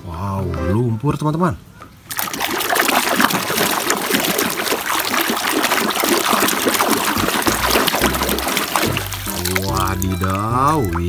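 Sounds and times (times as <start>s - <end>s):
water sloshing in a basin: 2.1s - 11.0s.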